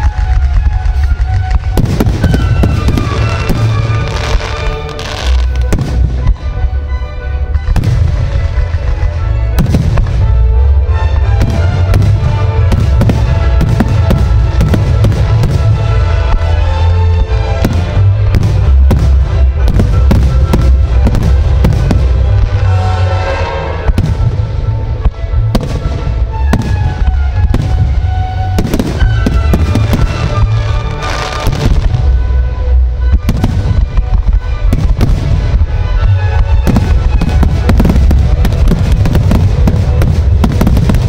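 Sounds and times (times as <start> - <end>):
fireworks bangs: 0.0 - 6.6, 7.6 - 10.5, 11.4 - 16.8, 17.5 - 32.2, 33.1 - 41.0.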